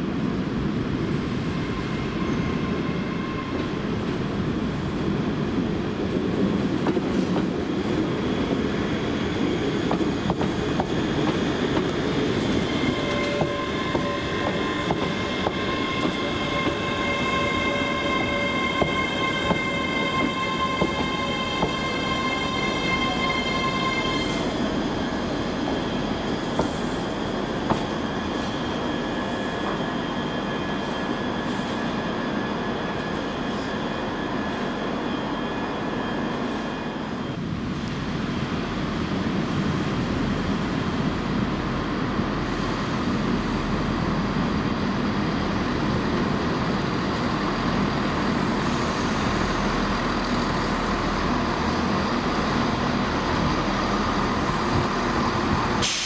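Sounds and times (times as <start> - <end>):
low train rumble: 0.0 - 56.0.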